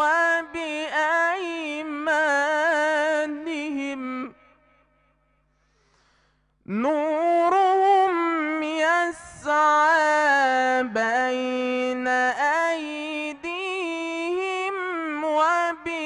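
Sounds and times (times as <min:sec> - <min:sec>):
man reciting melodically: 0:00.0 - 0:04.9, 0:06.6 - 0:16.0.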